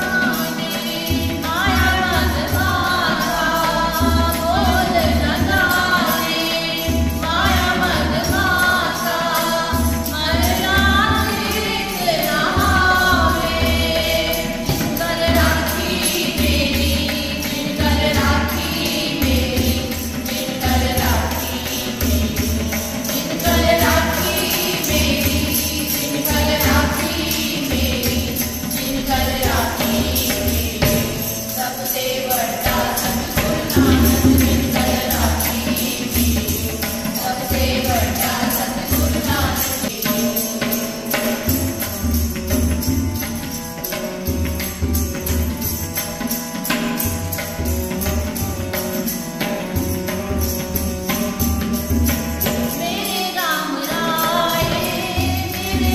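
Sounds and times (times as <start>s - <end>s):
women singing together: 0.0s - 42.0s, 51.8s - 55.9s
harmonium: 0.0s - 55.9s
jingling hand percussion: 0.0s - 55.9s.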